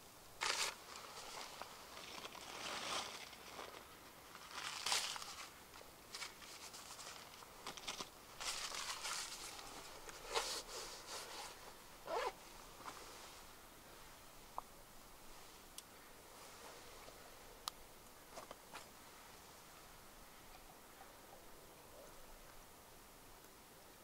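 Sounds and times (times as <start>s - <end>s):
rustling and crinkling: 0.4s - 19.8s.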